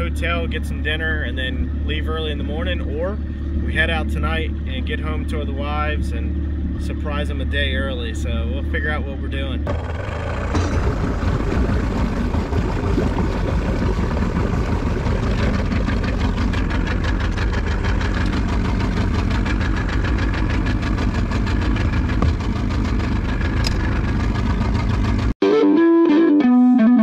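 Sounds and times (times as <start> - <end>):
outboard motor running: 0.0 - 25.4.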